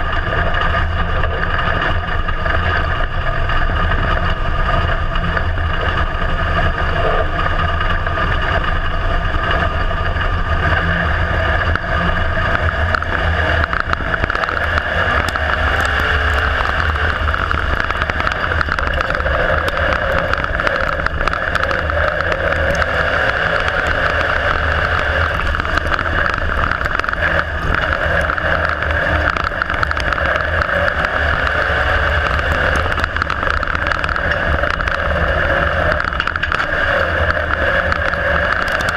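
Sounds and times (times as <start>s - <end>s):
race car engine running: 0.0s - 38.9s.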